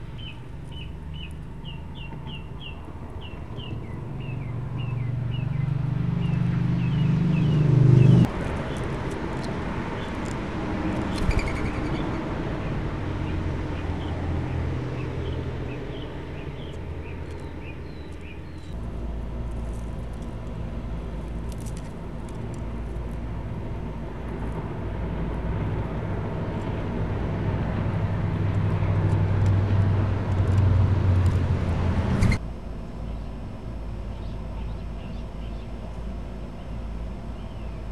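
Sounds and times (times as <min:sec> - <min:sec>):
distant road traffic rumble: 0:00.0 - 0:37.9.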